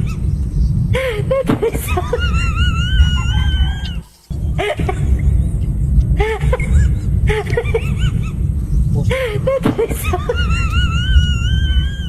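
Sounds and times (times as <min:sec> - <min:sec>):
steady low rumble: 0:00.0 - 0:12.0
bursts of laughter: 0:01.0 - 0:05.6, 0:06.2 - 0:12.0.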